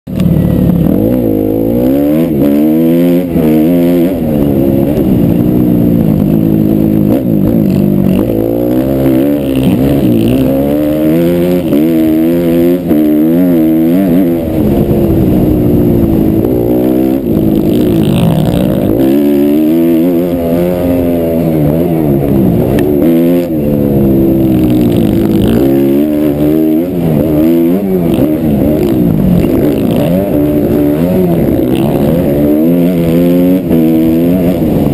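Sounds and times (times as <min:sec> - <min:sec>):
motocross engine revving: 0:00.1 - 0:34.9.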